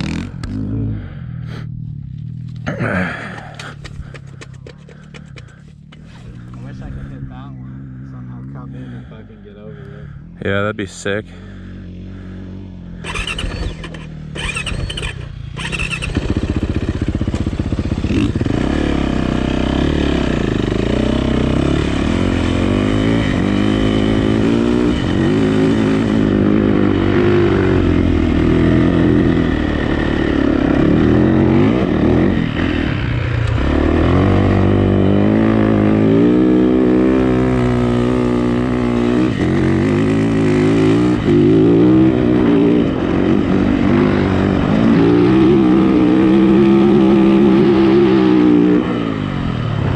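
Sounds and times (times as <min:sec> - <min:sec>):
dirt bike engine revving: 0:00.0 - 0:01.4, 0:09.7 - 0:49.9.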